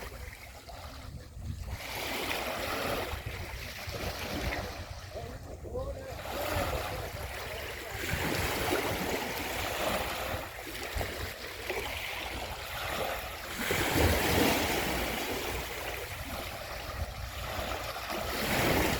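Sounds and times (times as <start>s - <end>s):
sea waves washing ashore: 0.0s - 18.9s.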